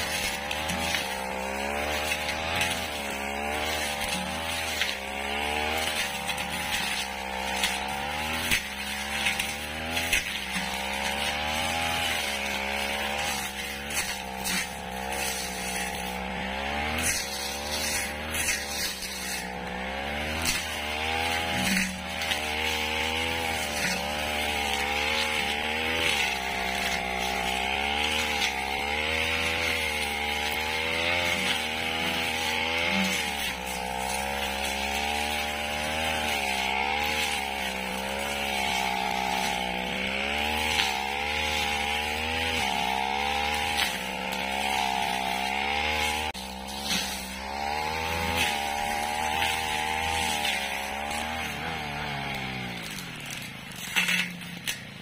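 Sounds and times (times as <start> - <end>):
brush cutter engine running hard: 0.0 - 55.0.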